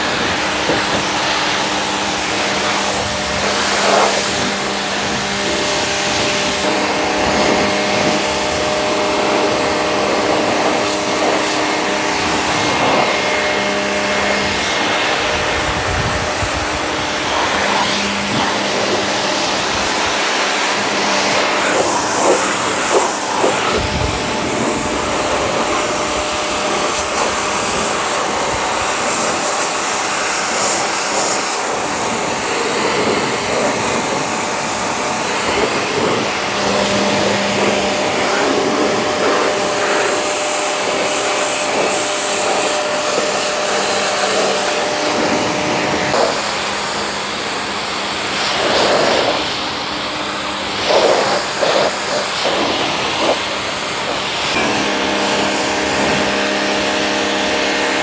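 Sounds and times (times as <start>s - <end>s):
pressure washer spraying: 0.0s - 58.0s.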